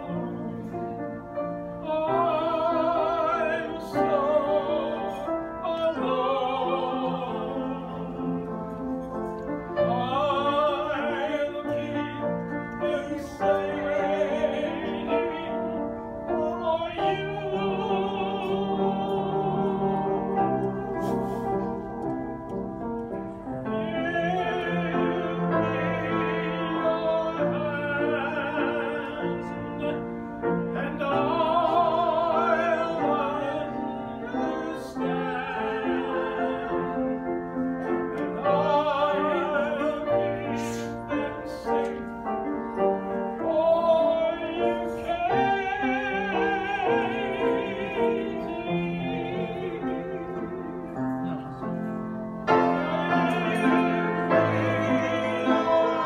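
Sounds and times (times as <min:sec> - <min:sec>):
grand piano: 0:00.0 - 0:56.0.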